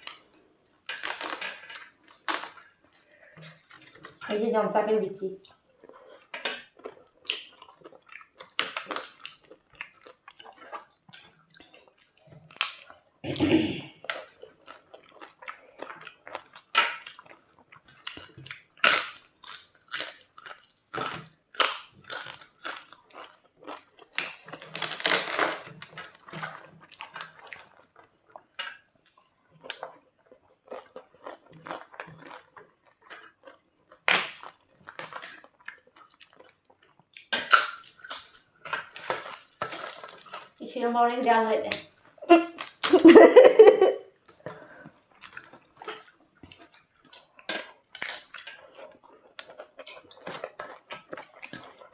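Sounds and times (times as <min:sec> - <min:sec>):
chewing crisp food: 0:00.0 - 0:04.3, 0:05.4 - 0:40.6, 0:41.4 - 0:51.9.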